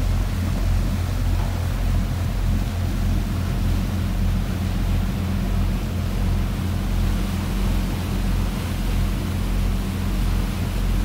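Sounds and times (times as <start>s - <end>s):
boat engine droning: 0.0s - 11.0s
churning wake rushing: 0.0s - 11.0s.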